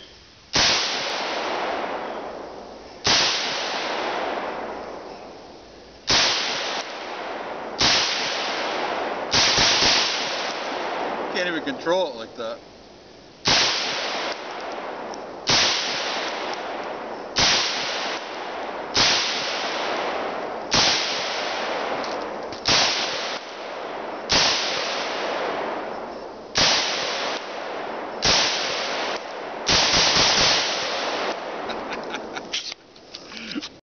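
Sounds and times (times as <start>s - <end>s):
rifle shots with echo: 0.5s - 5.1s, 6.1s - 12.3s, 13.4s - 32.4s.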